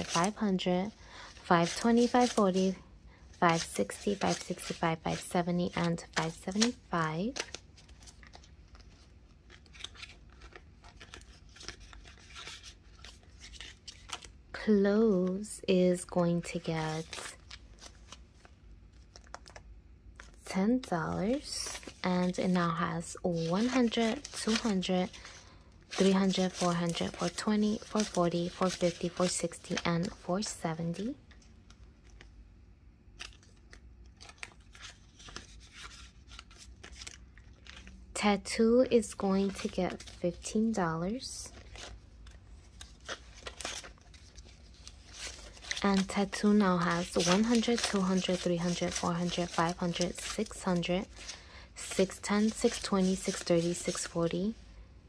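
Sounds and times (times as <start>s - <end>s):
paper banknotes rustling: 0.0s - 14.3s, 16.4s - 20.4s, 21.0s - 32.3s, 33.2s - 54.6s.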